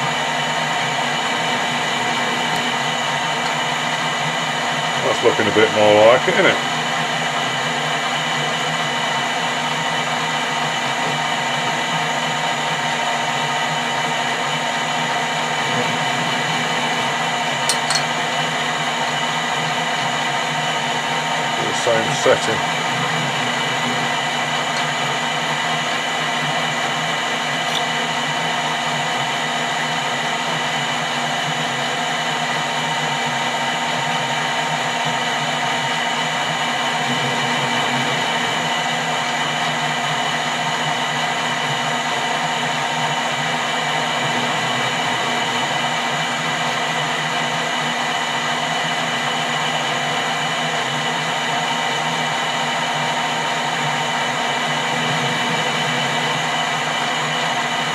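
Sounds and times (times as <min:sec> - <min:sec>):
lathe whining: 0:00.0 - 0:57.9.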